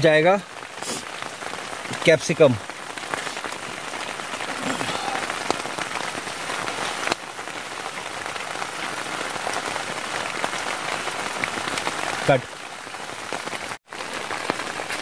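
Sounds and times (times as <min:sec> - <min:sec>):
heavy rain on a tent: 0:00.0 - 0:15.0
sharp raindrop ticks: 0:00.0 - 0:15.0.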